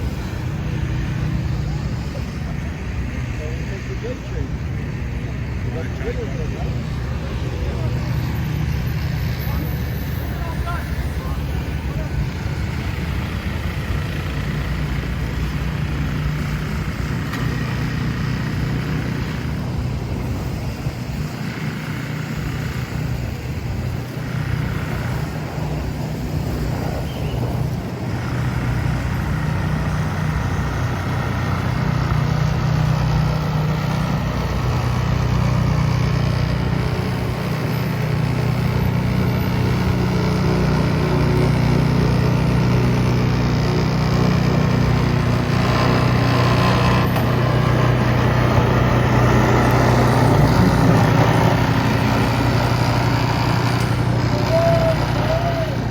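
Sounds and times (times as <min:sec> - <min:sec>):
engine running: 0:00.0 - 0:55.9
street noise: 0:00.0 - 0:55.9.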